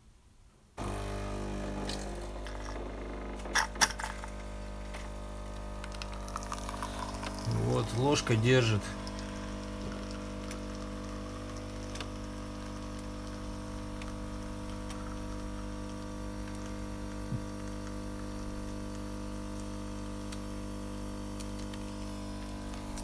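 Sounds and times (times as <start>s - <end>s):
coffee machine pump humming: 0.8s - 23.0s.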